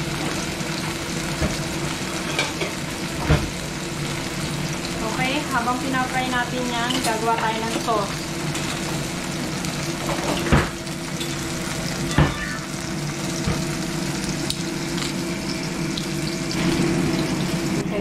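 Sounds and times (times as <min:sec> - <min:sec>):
tofu sizzling in oil: 0:00.0 - 0:18.0.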